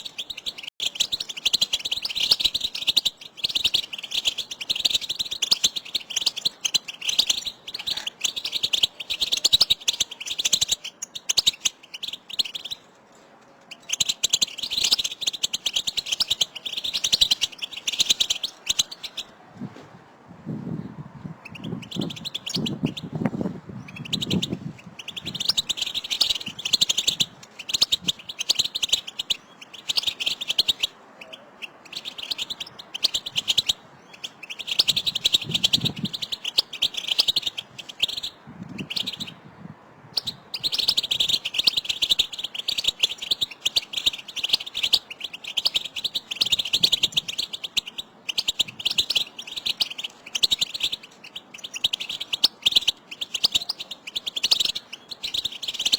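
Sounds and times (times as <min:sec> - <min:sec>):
goldfinches twittering: 0:00.0 - 0:12.9, 0:13.7 - 0:19.4, 0:20.6 - 0:39.5, 0:40.1 - 0:55.9.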